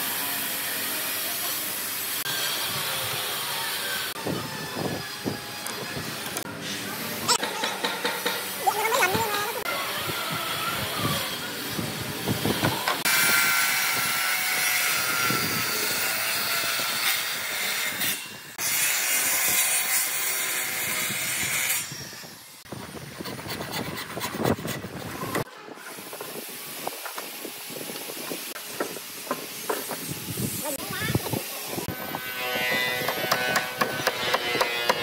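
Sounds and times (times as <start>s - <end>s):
circular saw cutting wood: 0.0s - 35.0s.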